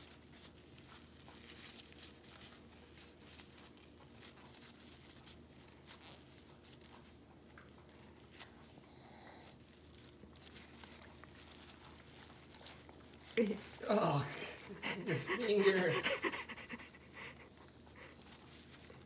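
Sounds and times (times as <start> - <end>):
low steady hum: 0.0 - 19.0
tissue paper crinkling: 0.0 - 19.0.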